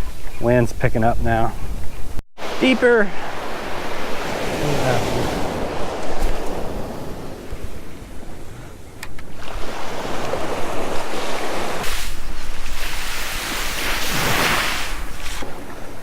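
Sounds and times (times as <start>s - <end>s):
ocean surf breaking on beach: 2.4s - 16.0s
wind buffeting microphone: 3.2s - 16.0s.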